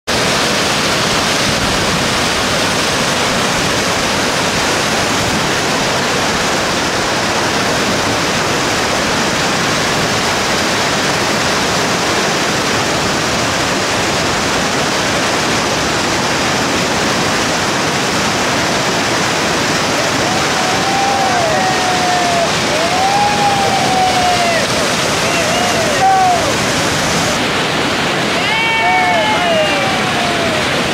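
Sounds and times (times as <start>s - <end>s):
whitewater rushing: 0.1s - 30.9s.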